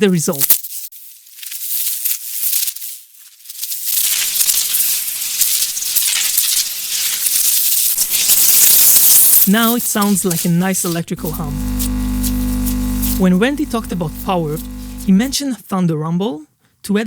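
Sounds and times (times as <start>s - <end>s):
electrical crackling hiss: 0.7s - 15.4s.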